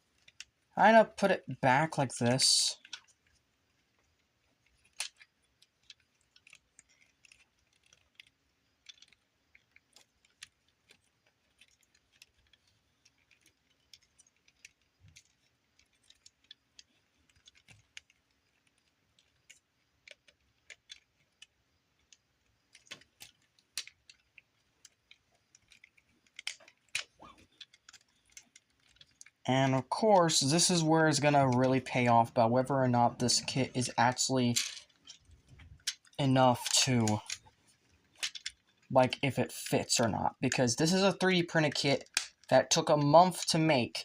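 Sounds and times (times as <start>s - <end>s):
plastic figure parts clicking: 0.1s - 44.0s.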